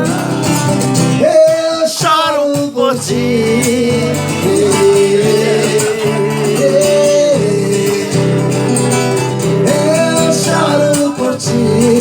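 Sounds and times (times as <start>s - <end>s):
guitar accompaniment: 0.0s - 12.0s
person singing a ballad: 0.0s - 12.0s.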